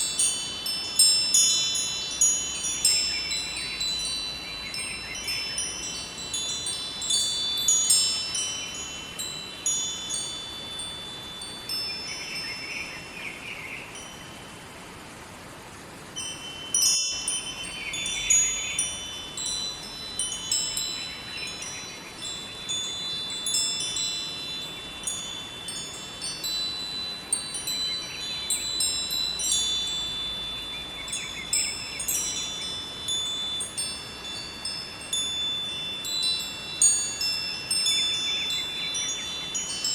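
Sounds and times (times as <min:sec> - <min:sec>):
metal wind chimes ringing: 0:00.0 - 0:15.0, 0:16.0 - 0:39.9
flowing river water: 0:00.0 - 0:39.9.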